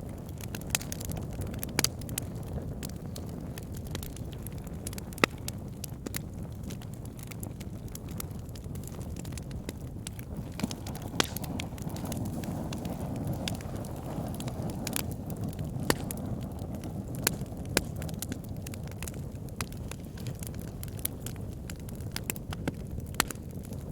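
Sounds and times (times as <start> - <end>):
fire crackles and pops: 0.0 - 23.9
low roar of flames: 0.0 - 23.9.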